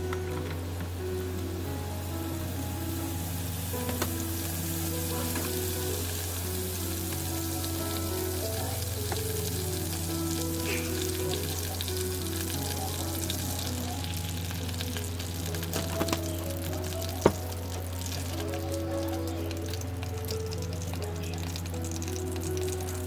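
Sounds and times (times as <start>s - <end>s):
background music: 0.0s - 23.0s
food sizzling in a pan: 0.0s - 23.0s.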